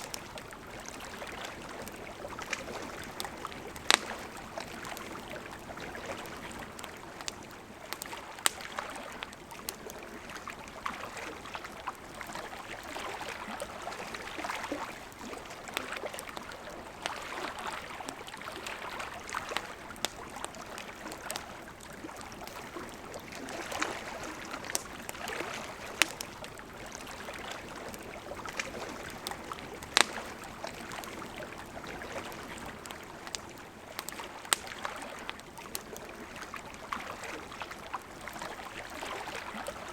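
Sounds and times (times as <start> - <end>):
campfire pops and crackles: 0.0 - 39.9
river flowing: 0.0 - 39.9.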